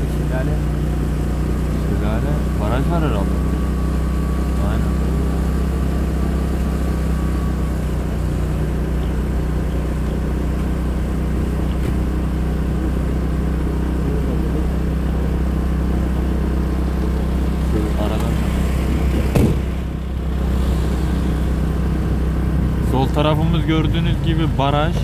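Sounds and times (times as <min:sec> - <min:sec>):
scooter engine running: 0:00.0 - 0:25.0.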